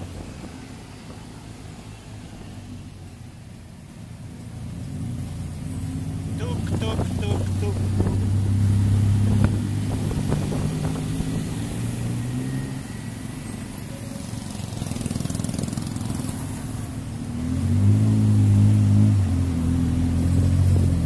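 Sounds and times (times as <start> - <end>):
auto rickshaw engine running: 0.0 - 21.0
road noise: 0.0 - 21.0.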